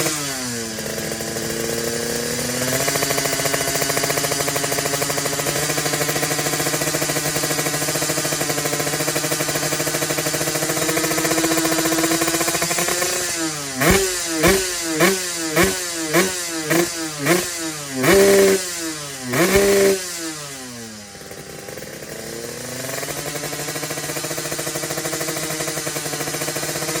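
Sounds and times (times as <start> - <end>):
two-stroke motorcycle engine revving: 0.0 - 27.0.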